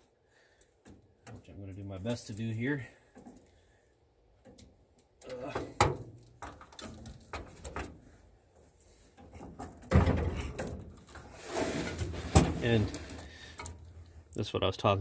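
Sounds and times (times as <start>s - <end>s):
metallic clicks and rattles of cable: 0.5s - 3.7s, 4.4s - 11.3s, 12.3s - 14.4s.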